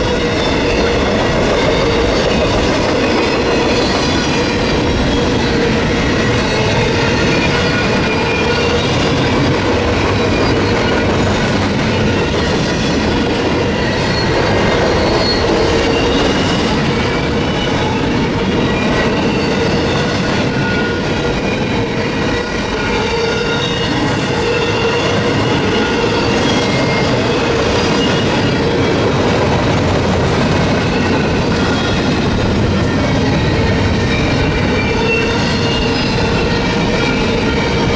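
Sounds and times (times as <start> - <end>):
train wheels rumbling and clacking: 0.0 - 37.9
wheel squeal: 0.0 - 37.9.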